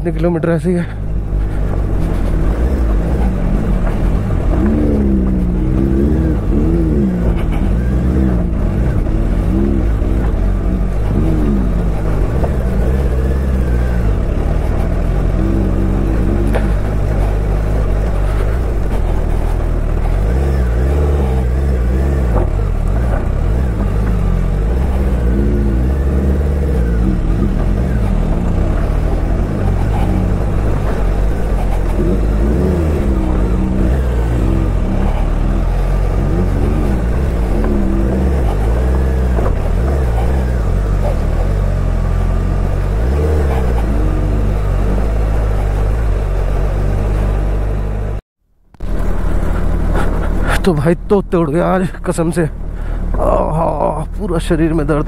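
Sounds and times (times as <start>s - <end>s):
motorcycle engine revving: 0.9s - 55.0s.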